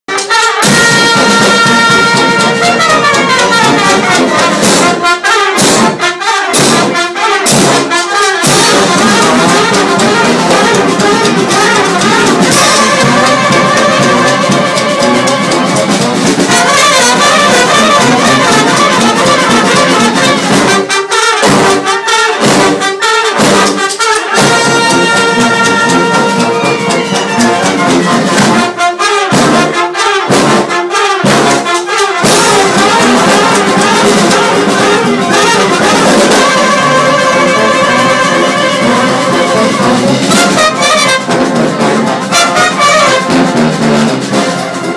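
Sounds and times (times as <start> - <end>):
brass band playing: 0.0 - 44.9
drum strokes: 0.1 - 44.9.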